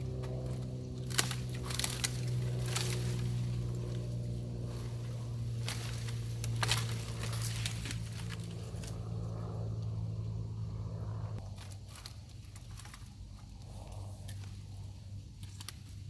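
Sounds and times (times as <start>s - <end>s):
crackles of brush or footsteps: 0.0s - 10.0s, 11.4s - 16.0s
engine idling hum: 0.0s - 16.0s.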